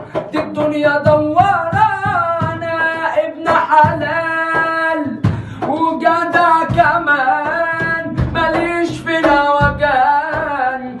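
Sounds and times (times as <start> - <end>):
drum hits: 0.0 - 11.0
instrumental backing: 0.0 - 11.0
person singing wordless vocal line: 0.0 - 11.0.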